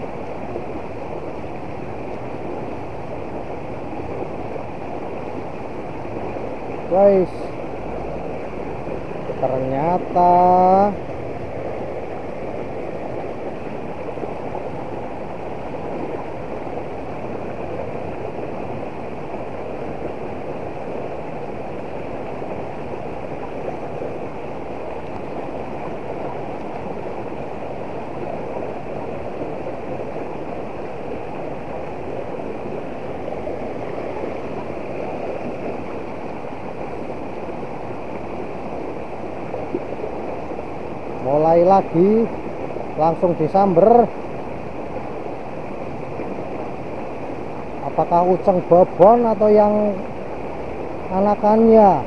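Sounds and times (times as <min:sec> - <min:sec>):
river rushing over stones: 0:00.0 - 0:52.0.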